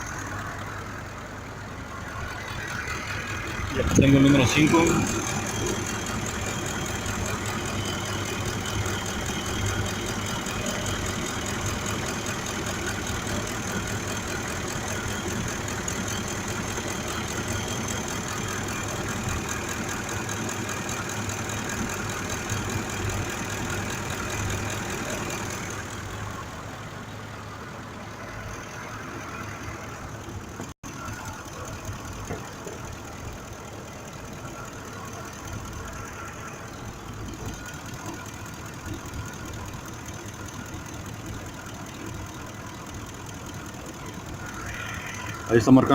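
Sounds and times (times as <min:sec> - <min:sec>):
engine idling with misfire: 0:00.0 - 0:45.9.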